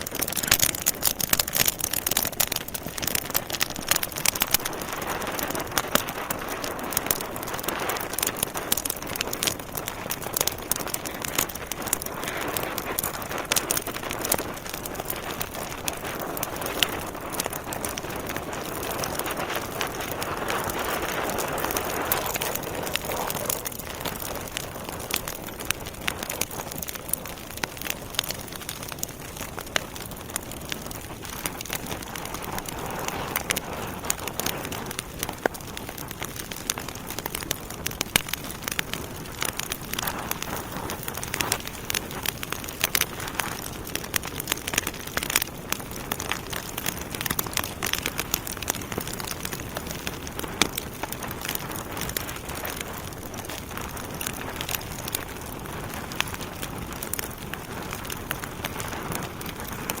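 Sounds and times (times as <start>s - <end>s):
fire hissing: 0.0s - 60.0s
logs crackling and popping: 0.0s - 60.0s.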